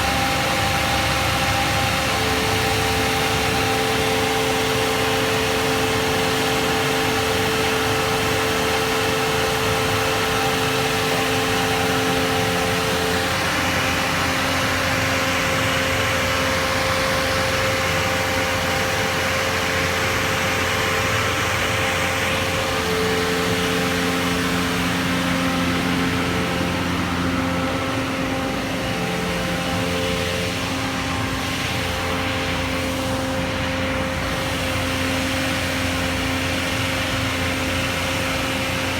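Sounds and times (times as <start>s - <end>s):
engine droning hum: 0.0s - 38.9s.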